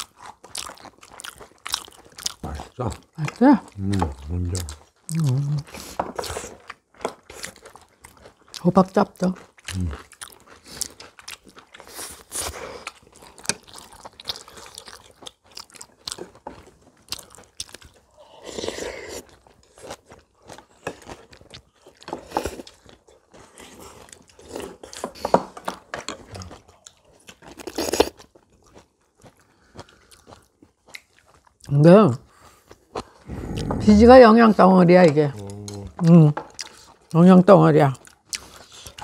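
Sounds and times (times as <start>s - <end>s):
people chewing and crunching food: 0.0s - 39.0s.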